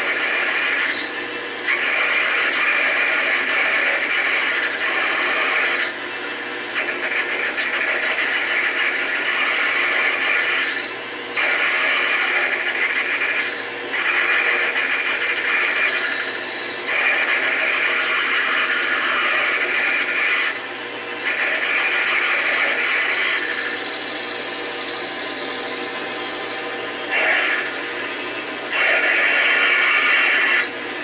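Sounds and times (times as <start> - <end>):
drill bit cutting metal: 0.0 - 31.0
lathe motor hum: 0.0 - 31.0.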